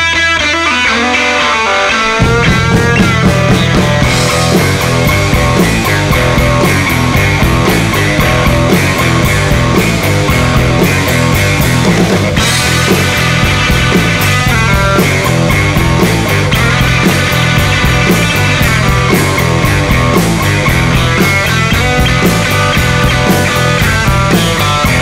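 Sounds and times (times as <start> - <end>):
loud rock music: 0.0 - 25.0.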